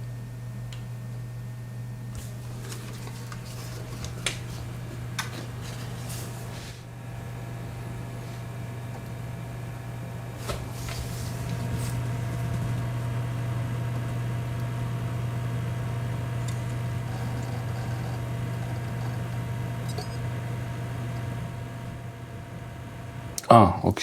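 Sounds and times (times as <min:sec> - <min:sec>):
hard drives humming: 0:00.0 - 0:24.0.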